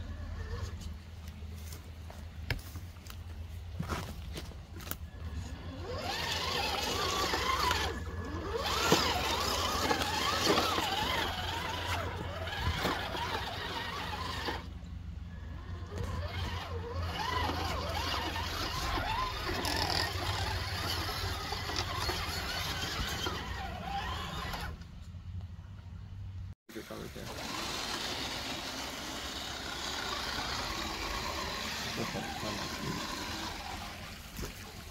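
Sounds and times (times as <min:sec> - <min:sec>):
toy truck electric motor whine: 0:00.0 - 0:00.9, 0:04.8 - 0:24.9, 0:27.2 - 0:34.5.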